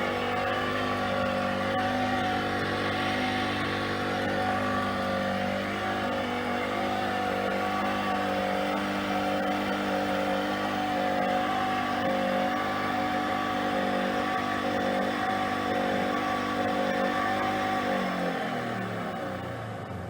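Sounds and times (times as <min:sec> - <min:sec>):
treadmill motor humming and whining: 0:00.0 - 0:19.1.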